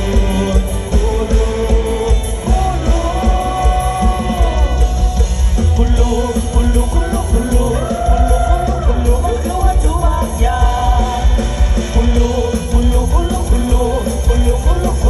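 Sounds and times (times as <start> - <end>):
heavy bass beat: 0.0 - 15.0
person singing: 0.0 - 15.0.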